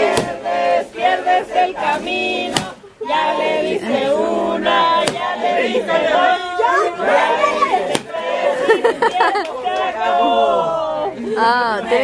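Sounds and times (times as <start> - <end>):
crowd singing in chorus: 0.0 - 12.0.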